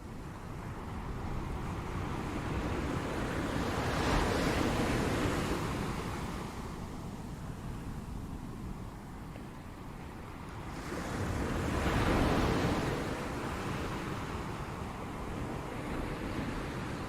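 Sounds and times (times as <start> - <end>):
wave breaking and washing in: 0.0 - 17.0
wind rumble on microphone: 0.0 - 17.0.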